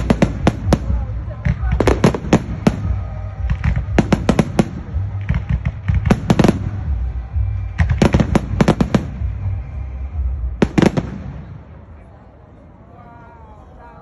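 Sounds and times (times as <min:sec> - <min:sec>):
fireworks banging: 0:00.0 - 0:11.8.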